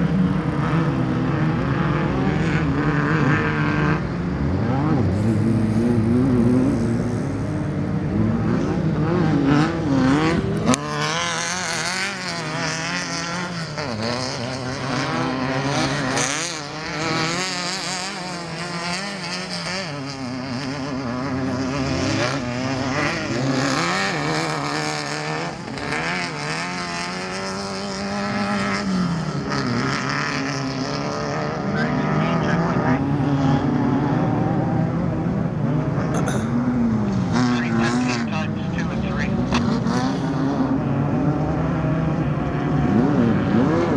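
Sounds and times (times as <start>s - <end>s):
race vehicle engines revving: 0.0s - 43.9s.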